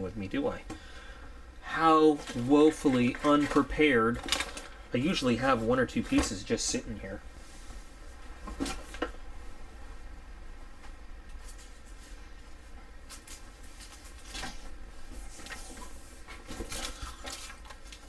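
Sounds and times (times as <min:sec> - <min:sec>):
faint rustling and handling: 0:02.0 - 0:09.6, 0:10.8 - 0:18.0.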